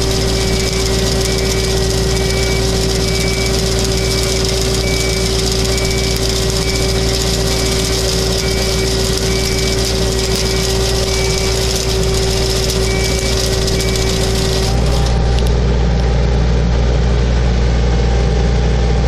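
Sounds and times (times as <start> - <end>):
hedge trimmer attachment working: 0.0 - 16.1
steady humming tone: 0.0 - 17.4
excavator diesel engine running: 0.0 - 19.0.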